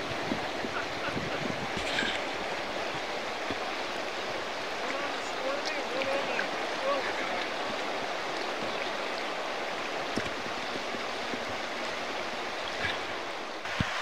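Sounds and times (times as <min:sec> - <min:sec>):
river water rushing over rocks: 0:00.0 - 0:14.0.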